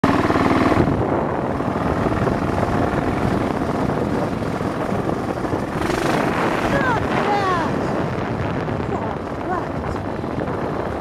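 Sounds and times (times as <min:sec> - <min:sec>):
motorcycle engine running: 0:00.0 - 0:11.0
wind buffeting microphone: 0:00.1 - 0:11.0.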